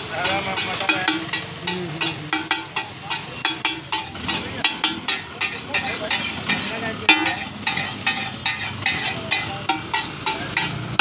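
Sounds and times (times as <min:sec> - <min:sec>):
food sizzling: 0:00.0 - 0:11.0
metal spatula clanking on griddle: 0:00.0 - 0:11.0.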